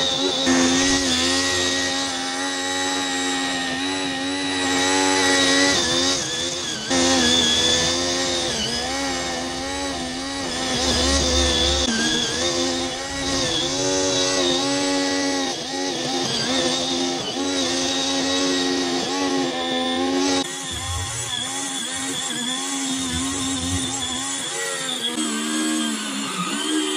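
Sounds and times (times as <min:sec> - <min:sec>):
weed trimmer motor buzzing: 0:00.0 - 0:26.9.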